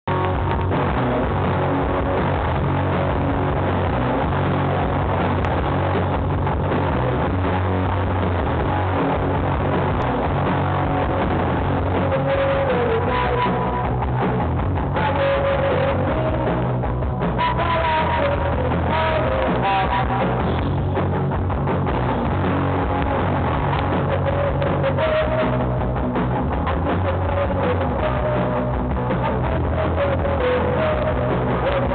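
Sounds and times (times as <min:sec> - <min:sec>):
rock band playing live: 0:00.0 - 0:31.9.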